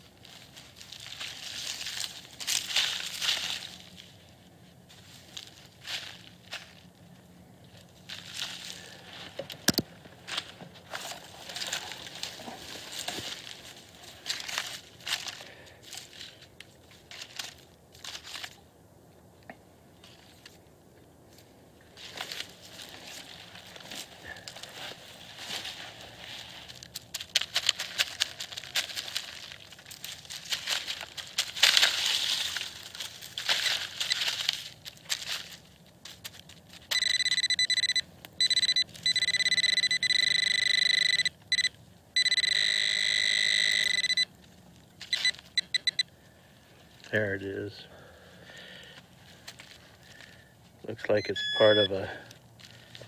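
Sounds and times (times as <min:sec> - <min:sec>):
coil brushing over dry leaves: 0:00.0 - 0:18.7, 0:19.9 - 0:37.0, 0:44.2 - 0:51.2, 0:51.9 - 0:53.0.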